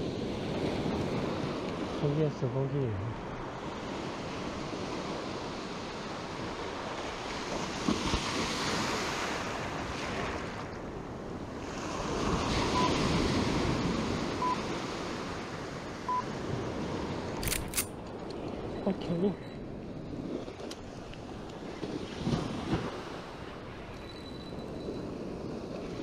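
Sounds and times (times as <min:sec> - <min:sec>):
ocean surf on sandy beach: 0:00.0 - 0:26.0
wind on microphone: 0:03.3 - 0:26.0.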